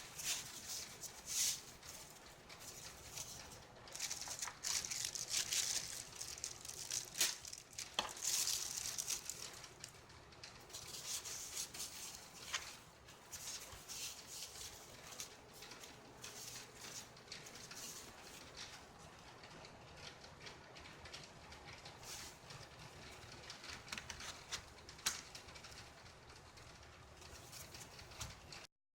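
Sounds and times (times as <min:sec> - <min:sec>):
small hardware clicking and rustling: 0:00.0 - 0:28.7.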